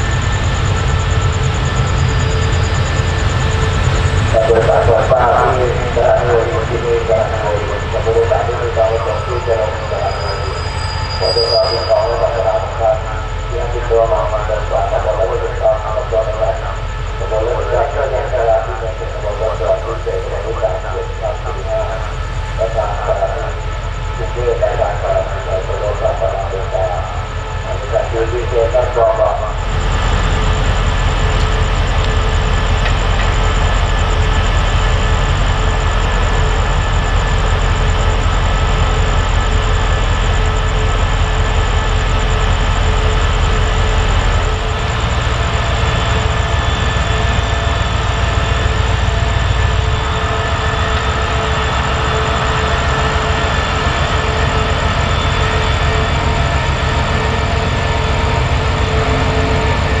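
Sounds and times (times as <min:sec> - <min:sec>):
diesel locomotive engine rumbling: 0:00.0 - 1:00.0
steady high whine: 0:00.0 - 1:00.0.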